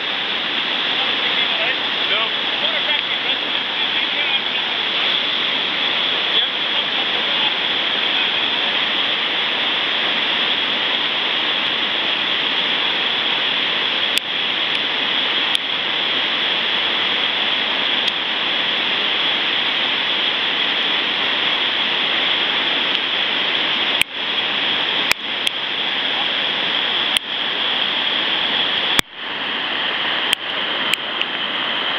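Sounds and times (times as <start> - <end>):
white water churning: 0.0 - 31.9.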